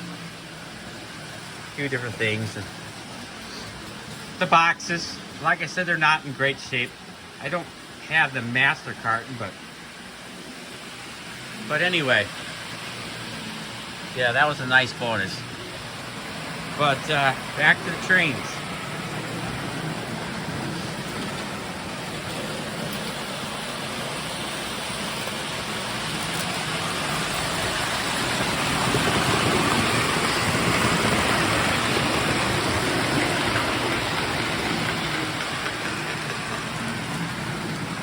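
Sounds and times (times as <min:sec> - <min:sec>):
toy train rolling on metal track: 0:00.1 - 0:38.0.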